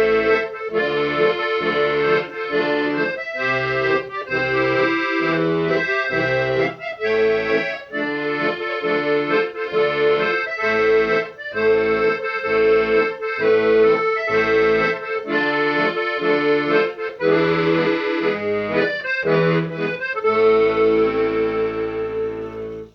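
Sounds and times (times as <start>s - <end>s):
instrumental music with bouncing bass: 0.0s - 22.9s.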